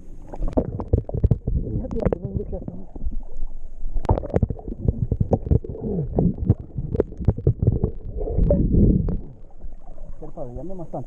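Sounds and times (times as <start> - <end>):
low rumbling handling noise: 0.0 - 10.0.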